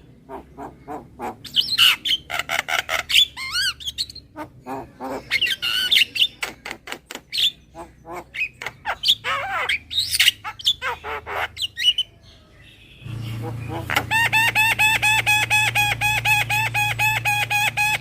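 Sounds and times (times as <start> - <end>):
myna bird calling: 0.0 - 18.0.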